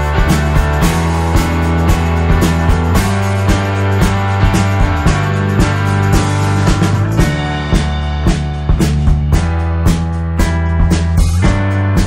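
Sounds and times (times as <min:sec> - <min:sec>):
held chords: 0:00.0 - 0:12.0
steady drum beat: 0:00.0 - 0:12.0.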